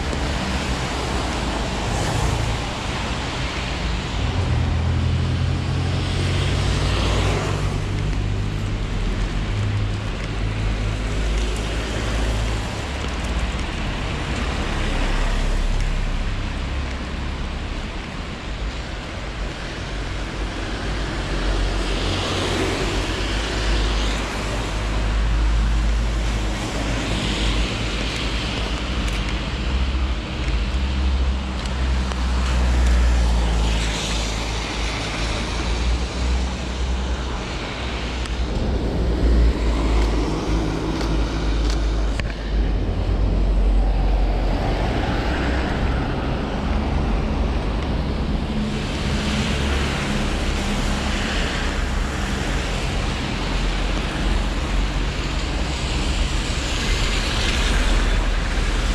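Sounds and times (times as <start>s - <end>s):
cars passing with tyre hiss: 0.0s - 58.9s
steady low traffic rumble: 0.0s - 58.9s.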